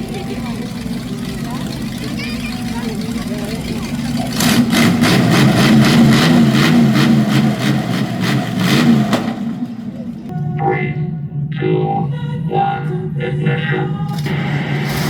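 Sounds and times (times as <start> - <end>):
large vehicle engine pulsing: 0.0 - 15.0.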